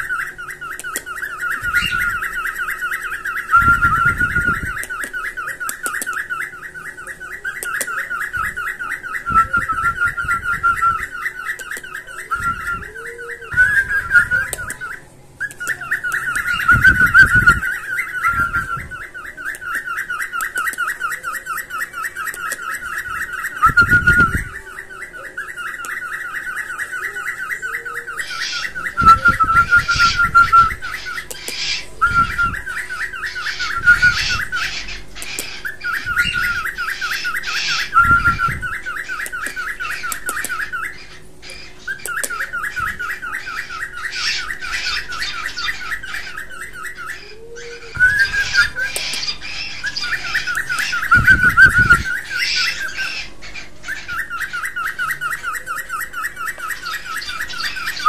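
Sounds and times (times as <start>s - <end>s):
birds trilling: 0.0s - 58.0s.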